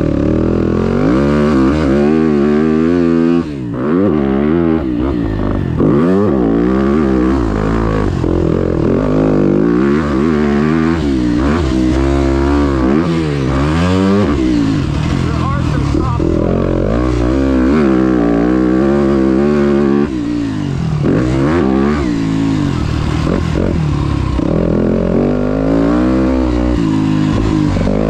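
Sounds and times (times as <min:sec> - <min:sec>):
dirt bike revving: 0:00.0 - 0:28.0.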